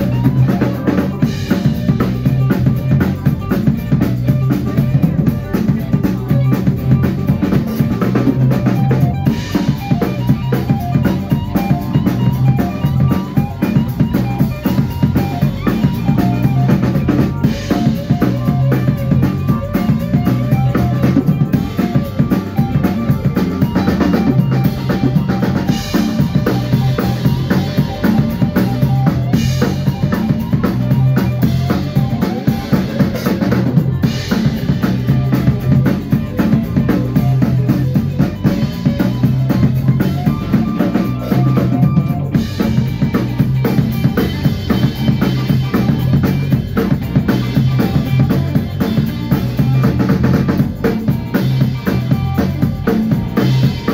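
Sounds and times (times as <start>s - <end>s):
drum kit beat: 0.0s - 53.9s
low bass line: 0.0s - 53.9s.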